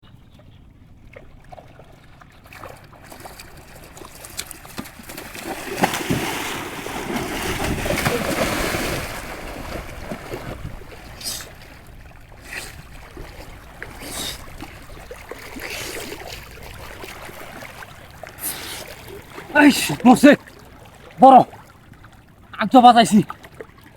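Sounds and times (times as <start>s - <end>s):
water splashing in a stream: 0.9s - 23.9s.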